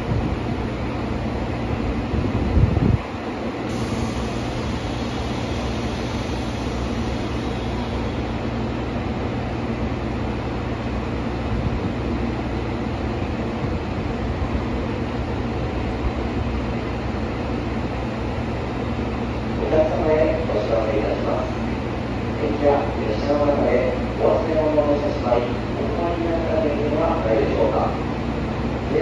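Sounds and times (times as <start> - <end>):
train equipment humming: 0.0 - 29.0.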